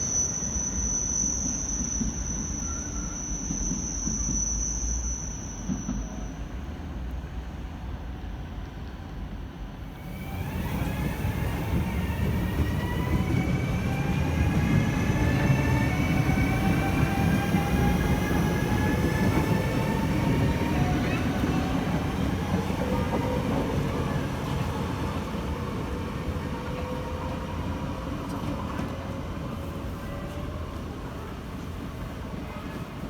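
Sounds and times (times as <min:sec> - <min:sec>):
train whining tones: 0:00.0 - 0:07.5, 0:09.9 - 0:31.4
train rumbling: 0:00.0 - 0:33.0.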